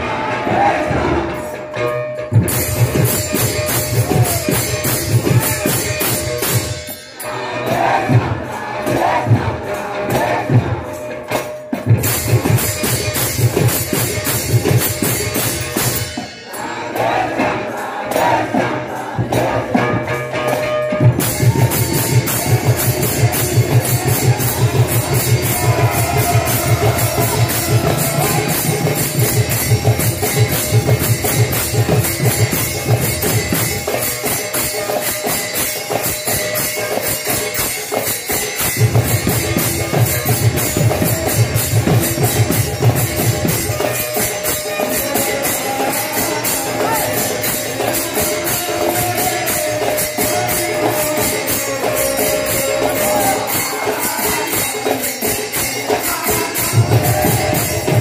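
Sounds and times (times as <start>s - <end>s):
hand drums: 0.0s - 58.0s
small hand cymbals clashing: 2.4s - 7.4s, 11.3s - 16.6s, 20.9s - 58.0s.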